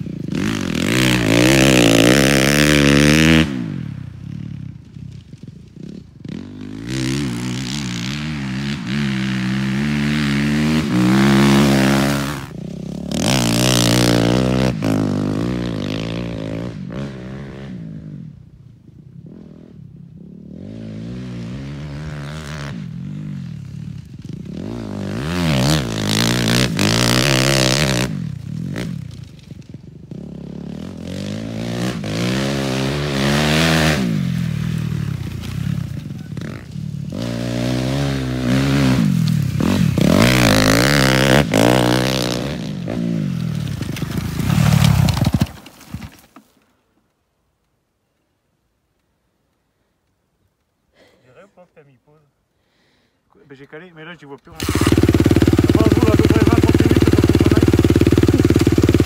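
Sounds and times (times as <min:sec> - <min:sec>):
motocross bike engine revving: 0:00.0 - 0:18.4, 0:19.2 - 0:46.1, 0:54.5 - 0:59.0.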